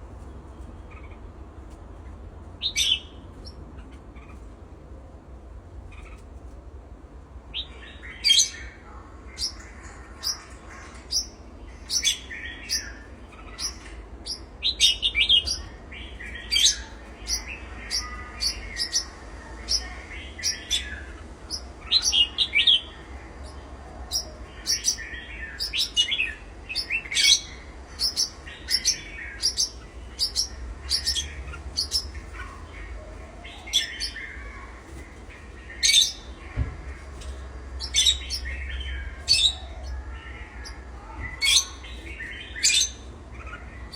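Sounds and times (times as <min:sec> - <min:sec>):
cage birds chirping: 0:00.0 - 0:43.9.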